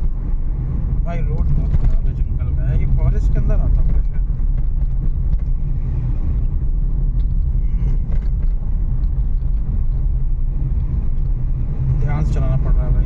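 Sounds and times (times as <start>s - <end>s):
low rumble of tyres and engine: 0.0s - 13.0s.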